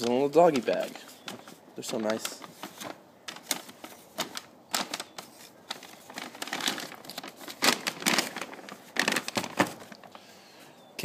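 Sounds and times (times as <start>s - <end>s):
paper bag crinkling: 0.0s - 10.2s.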